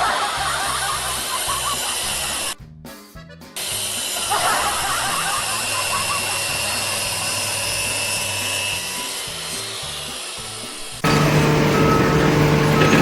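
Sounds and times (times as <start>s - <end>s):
power tool whining: 0.6s - 2.6s, 3.6s - 13.0s.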